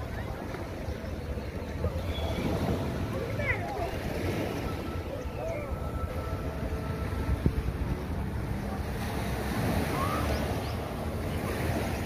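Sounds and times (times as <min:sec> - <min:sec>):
faint distant voices: 0:00.0 - 0:12.0
waves washing on shore: 0:00.0 - 0:12.0.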